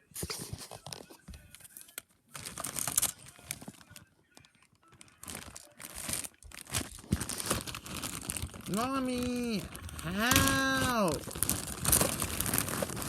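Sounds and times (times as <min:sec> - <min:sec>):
crinkling and rustling handling noise: 0:00.5 - 0:13.0.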